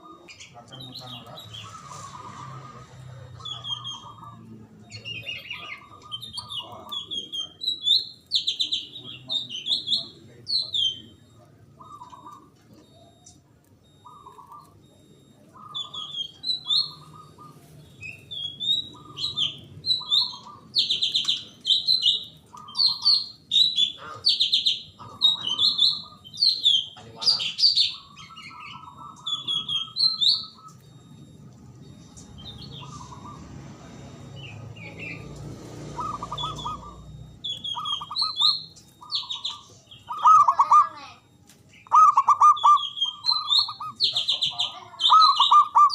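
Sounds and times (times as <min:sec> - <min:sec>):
dove cooing: 0:00.0 - 0:45.9
small birds chirping: 0:00.0 - 0:45.9.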